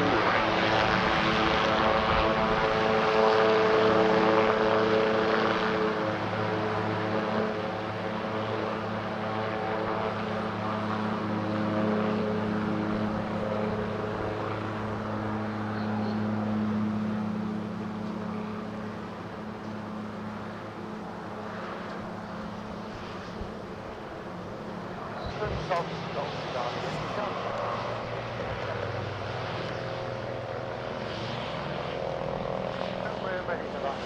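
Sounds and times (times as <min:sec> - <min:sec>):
propeller aircraft engine: 0:00.0 - 0:34.0.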